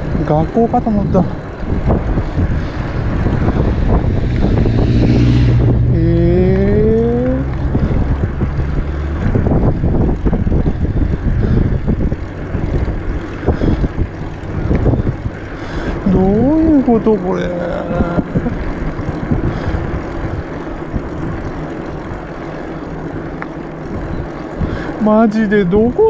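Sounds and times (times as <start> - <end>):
bicycle tyre noise: 0.0 - 26.0
motor vehicle passing: 0.0 - 26.0
wind rush: 0.0 - 26.0.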